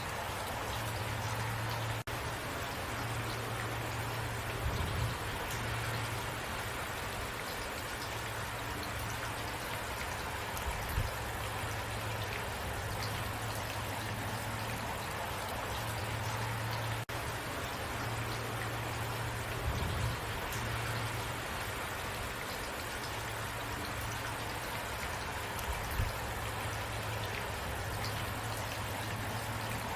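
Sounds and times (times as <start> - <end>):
rain falling: 0.0 - 29.9.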